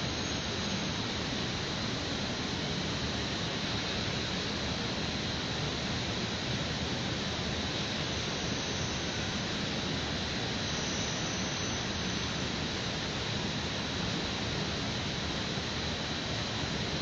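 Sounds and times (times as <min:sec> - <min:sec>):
outdoor ambience hiss: 0:00.0 - 0:17.0.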